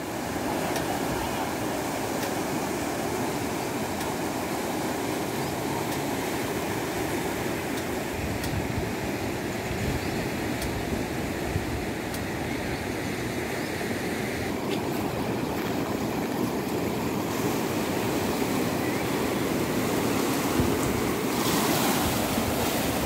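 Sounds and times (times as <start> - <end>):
flooded river rushing: 0.0 - 23.0.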